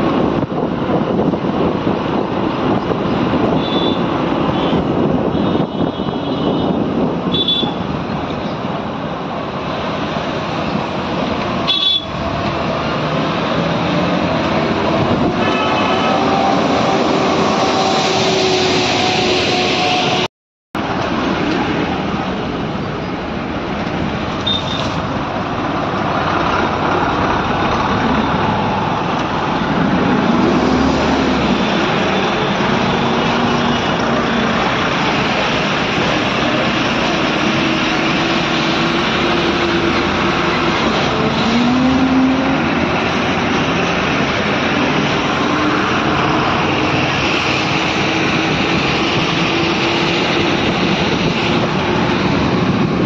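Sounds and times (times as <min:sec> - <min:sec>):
dense road noise: 0:00.0 - 0:53.0
diesel engines of trucks: 0:00.0 - 0:53.0.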